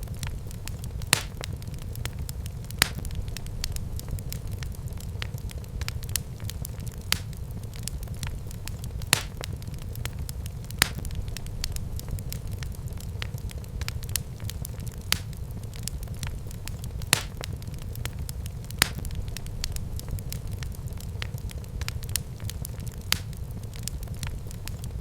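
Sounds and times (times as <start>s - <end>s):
low rumble of flames: 0.0s - 25.0s
sharp fire pops: 0.0s - 25.0s
small fire crackles: 0.0s - 25.0s.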